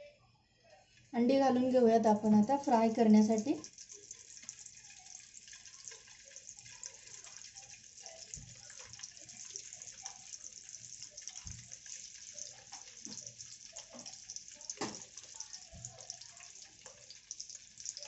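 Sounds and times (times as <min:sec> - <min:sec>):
hot oil sizzling in a pan: 0:02.2 - 0:18.0.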